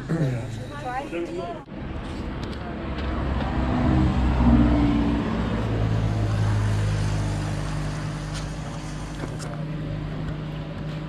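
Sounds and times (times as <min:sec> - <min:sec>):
vehicle engine running: 0:01.6 - 0:11.0.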